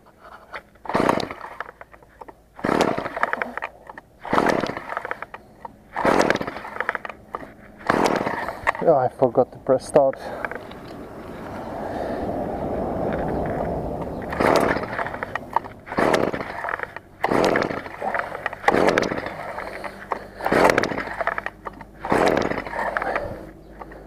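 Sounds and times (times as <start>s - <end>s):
engine pull-starter cranking: 0.2s - 11.1s, 13.1s - 24.0s.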